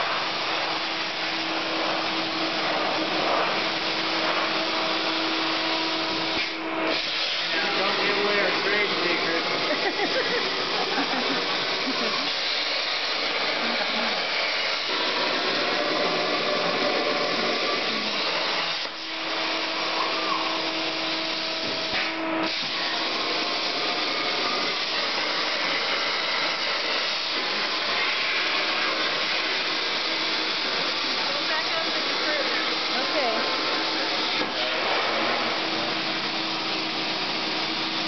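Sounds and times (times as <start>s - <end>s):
cutting torch hissing: 0.0s - 38.0s.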